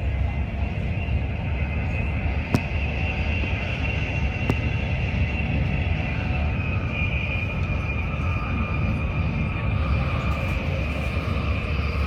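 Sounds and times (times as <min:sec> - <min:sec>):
steady high whine: 0:00.0 - 0:12.0
train rumbling and rushing: 0:00.0 - 0:12.0.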